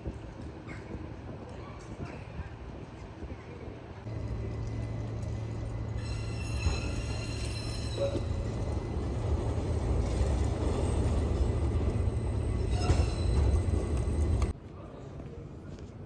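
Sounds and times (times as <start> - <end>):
tram rumbling on rails: 0.0 - 14.6.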